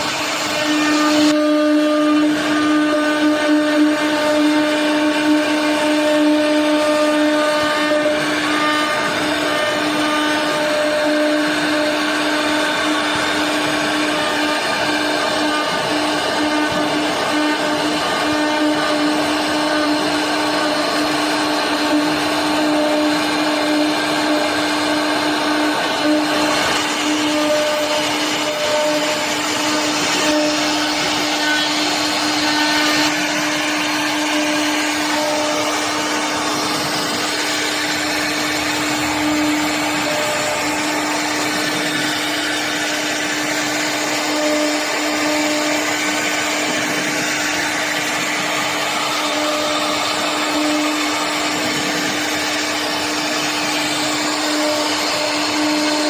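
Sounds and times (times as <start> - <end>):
bit cutting into wood: 0.0 - 56.0
router spindle whine: 0.0 - 56.0.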